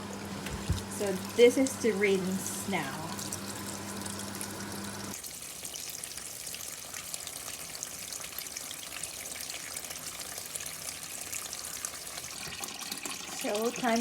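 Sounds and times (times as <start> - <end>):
tap water running into tub: 0.0 - 14.0.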